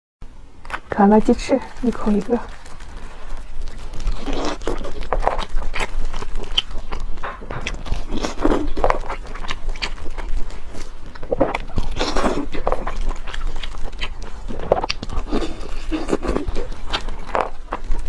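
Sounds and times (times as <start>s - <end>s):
biting and chewing: 0.3s - 18.0s
wet mouth clicks and smacks: 2.5s - 18.0s.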